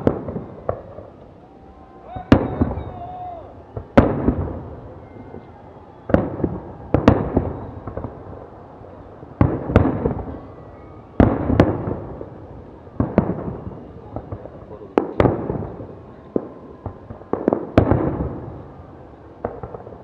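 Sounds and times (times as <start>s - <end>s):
fireworks bangs: 0.0s - 20.0s
fireworks crackle and echo: 0.0s - 20.0s.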